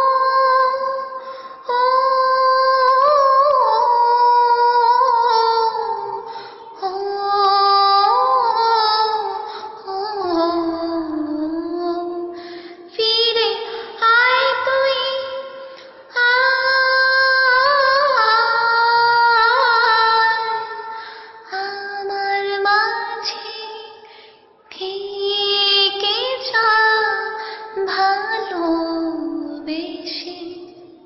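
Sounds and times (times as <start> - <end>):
woman singing wordless melody: 0.0 - 31.0.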